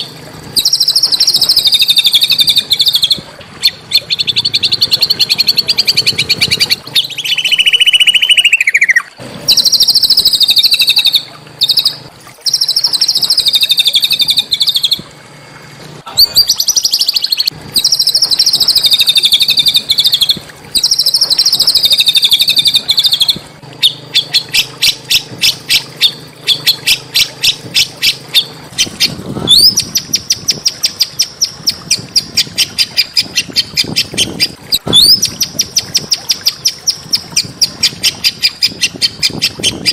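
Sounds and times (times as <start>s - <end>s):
songbird singing trills: 0.0s - 15.0s, 16.1s - 39.9s.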